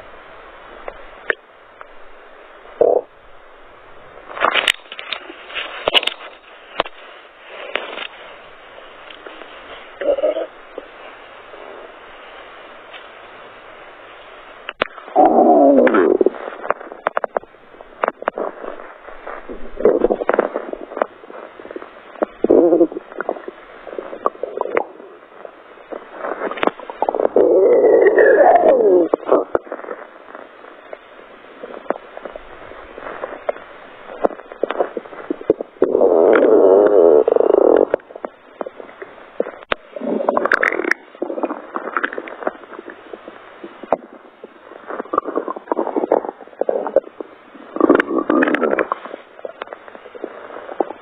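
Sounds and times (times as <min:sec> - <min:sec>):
stomach gurgles and pops: 0:00.8 - 0:02.1, 0:02.7 - 0:03.2, 0:04.1 - 0:13.2, 0:14.2 - 0:51.0
stomach growling: 0:02.6 - 0:03.2, 0:04.1 - 0:13.2, 0:14.6 - 0:51.0.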